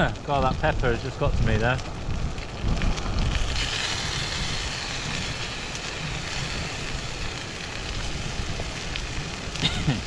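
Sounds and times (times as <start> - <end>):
food sizzling in a frying pan: 0.0 - 10.0
low burner rumble: 0.0 - 10.0.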